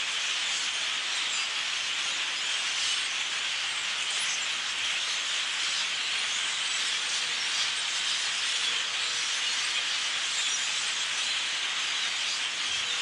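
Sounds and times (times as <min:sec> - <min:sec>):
flock of birds chattering: 0:00.0 - 0:13.0.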